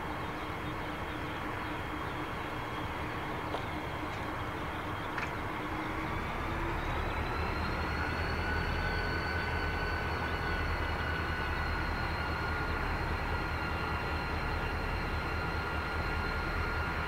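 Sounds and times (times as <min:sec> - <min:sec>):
diesel locomotives idling: 0:00.0 - 0:17.0.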